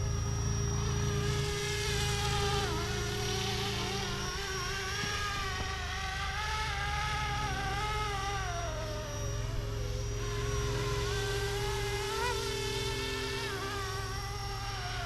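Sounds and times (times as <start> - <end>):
rc helicopter buzzing whine: 0.0 - 15.0.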